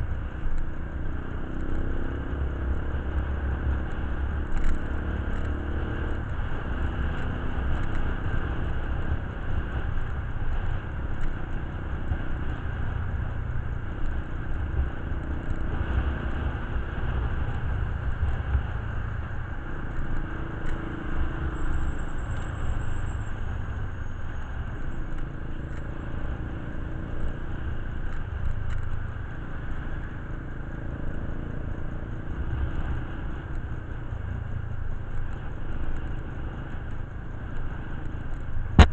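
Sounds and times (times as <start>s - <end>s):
motor vehicle engine rumble: 0.0s - 38.9s.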